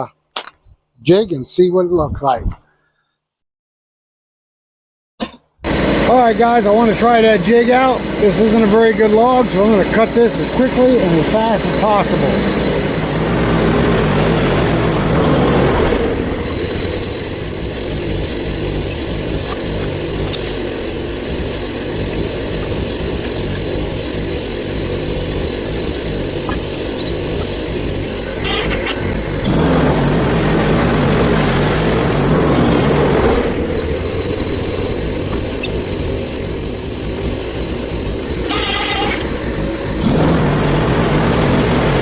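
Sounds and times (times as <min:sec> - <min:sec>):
bandsaw mill engine running: 0:05.6 - 0:42.0
band blade sawing log: 0:05.7 - 0:35.8, 0:38.4 - 0:42.0.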